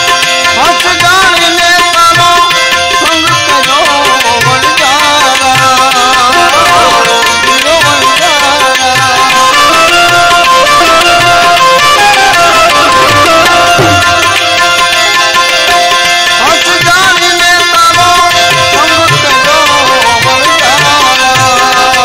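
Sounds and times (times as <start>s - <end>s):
harmonium chords: 0.0s - 22.0s
tabla beat: 0.0s - 22.0s
man singing: 0.2s - 22.0s.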